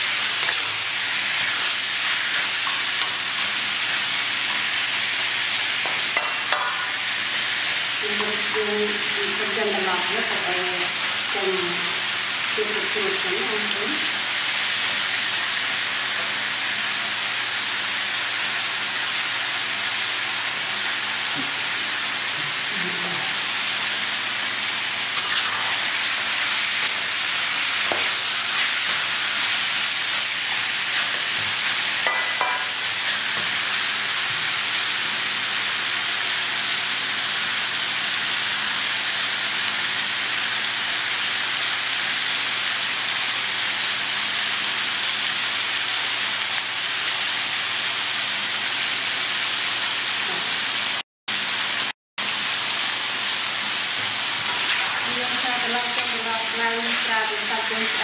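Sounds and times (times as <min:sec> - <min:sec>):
meat sizzling in a wok: 0:00.0 - 0:58.0.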